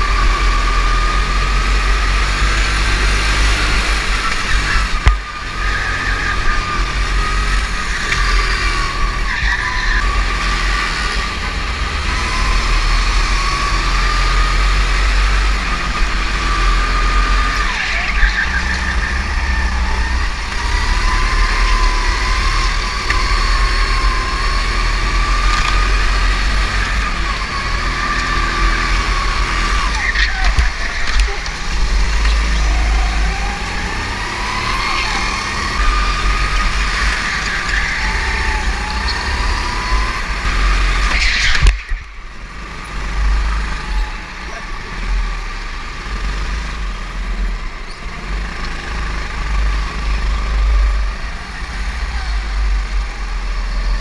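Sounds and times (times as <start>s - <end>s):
go-kart motor running hard: 0.0s - 54.0s.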